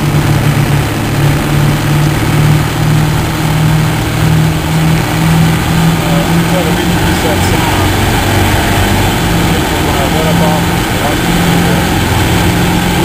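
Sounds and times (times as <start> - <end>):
diesel truck engine droning: 0.0 - 13.0.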